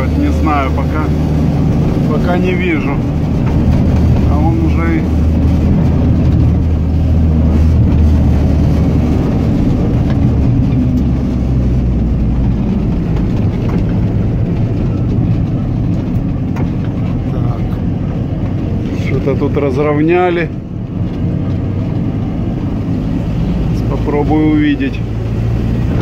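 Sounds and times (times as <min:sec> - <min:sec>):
engine and road noise in cabin: 0:00.0 - 0:26.0.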